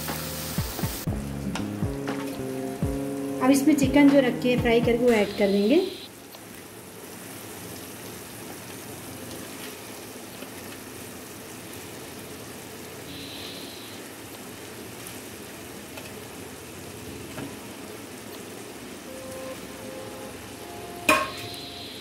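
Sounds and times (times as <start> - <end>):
gravy sizzling in a pan: 0.0 - 4.6, 5.2 - 22.0.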